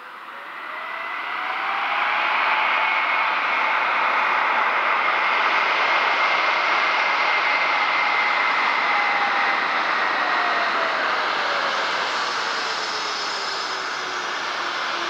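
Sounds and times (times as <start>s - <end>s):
faint high whine: 0.0s - 15.0s
jet engines rushing: 0.0s - 15.0s.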